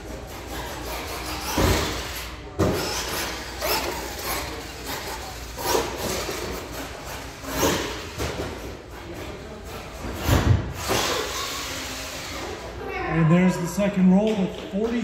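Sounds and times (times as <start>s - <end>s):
rc truck drivetrain and tyre noise: 0.0s - 10.1s, 10.8s - 12.8s.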